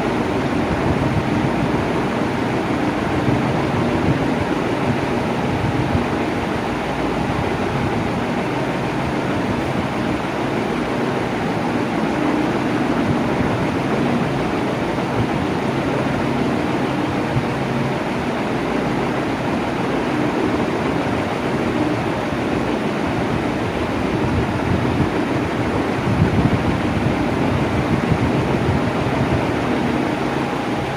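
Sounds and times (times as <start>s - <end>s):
electric fan running: 0.0s - 30.9s.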